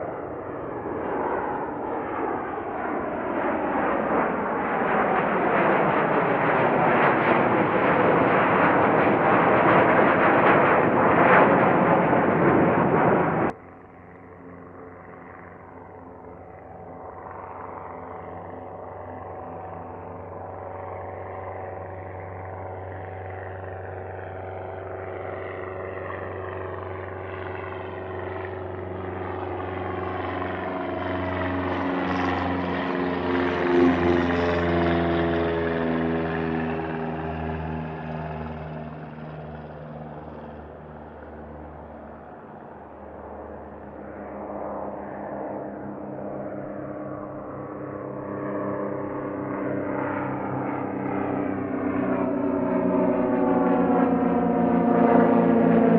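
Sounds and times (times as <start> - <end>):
aircraft engine passing: 0.0 - 55.9.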